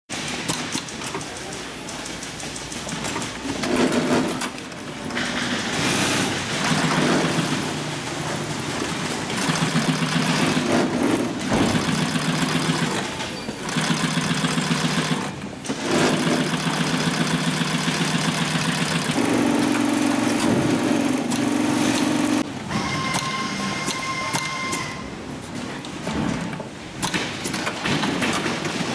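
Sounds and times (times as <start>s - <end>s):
industrial sewing machine stitching: 0.2s - 25.0s.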